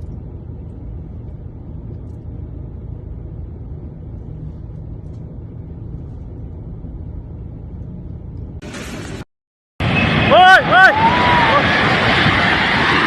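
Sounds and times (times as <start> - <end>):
low rumbling noise: 0.0 - 9.2, 9.8 - 13.0.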